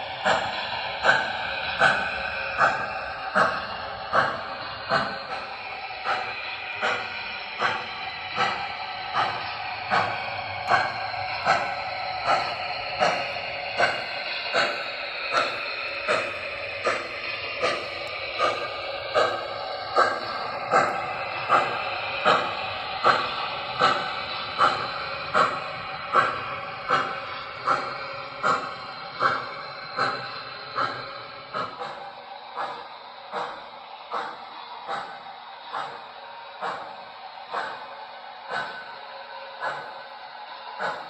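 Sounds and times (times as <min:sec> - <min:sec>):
model steam locomotive chuffing: 0:00.0 - 0:41.0.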